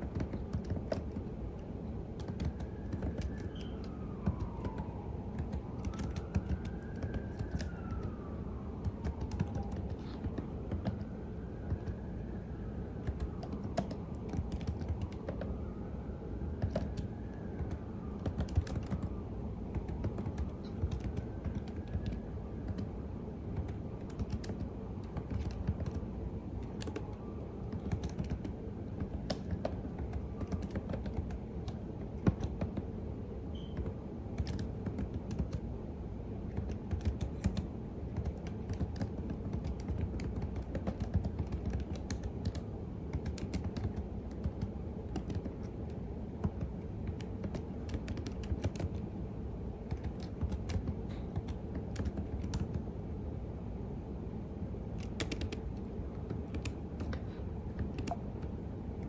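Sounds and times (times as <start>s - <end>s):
typing on keyboard: 0.0s - 8.2s, 8.8s - 12.2s, 13.0s - 15.6s, 16.6s - 32.9s, 33.6s - 35.7s, 36.4s - 49.1s, 49.8s - 52.9s, 55.0s - 59.0s.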